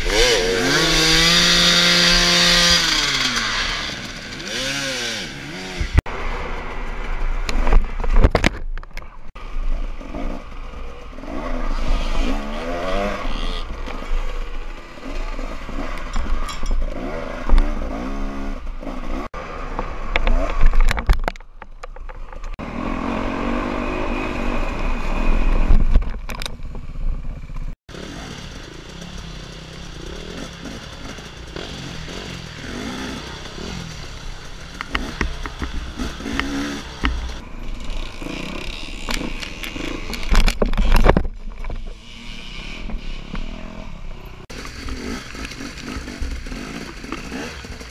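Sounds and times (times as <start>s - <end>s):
dirt bike engine revving: 0.0s - 7.3s, 9.4s - 19.6s, 22.6s - 25.7s, 27.9s - 40.2s, 42.0s - 47.9s.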